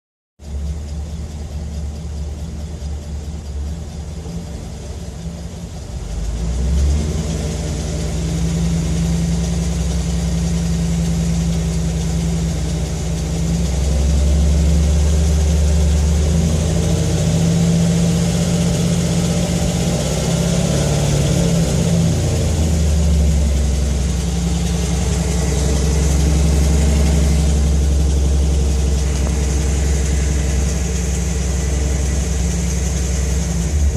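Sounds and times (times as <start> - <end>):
car engine idling: 0.4 - 33.9
engine ticking: 0.4 - 33.9.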